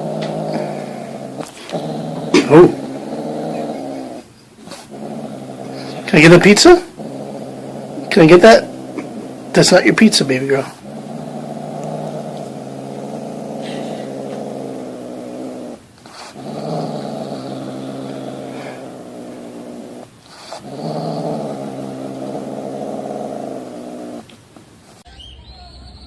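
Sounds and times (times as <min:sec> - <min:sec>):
animal growling low: 0:00.0 - 0:24.2.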